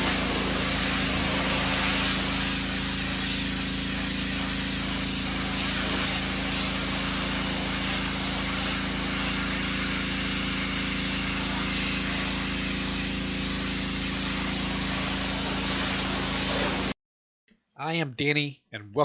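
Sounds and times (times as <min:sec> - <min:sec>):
pressure washer motor hum: 0:00.0 - 0:17.0
pressure washer spray hiss: 0:00.0 - 0:17.0.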